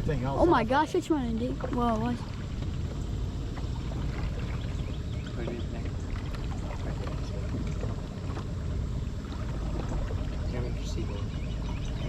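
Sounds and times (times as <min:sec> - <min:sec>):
boat motor idling: 0:00.0 - 0:12.0
water splashes: 0:00.0 - 0:12.0.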